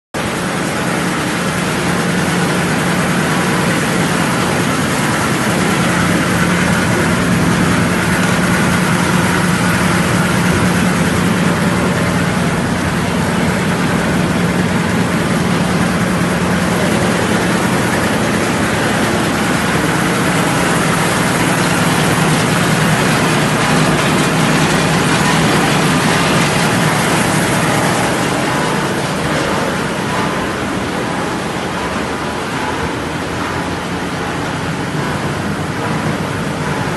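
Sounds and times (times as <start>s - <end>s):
machine hum: 0.2s - 36.9s.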